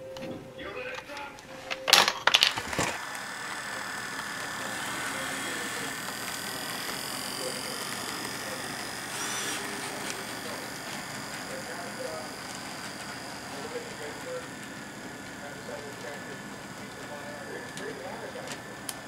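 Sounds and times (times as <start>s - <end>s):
model train motor whine: 1.9s - 19.0s
wheels rolling on track: 2.5s - 19.0s.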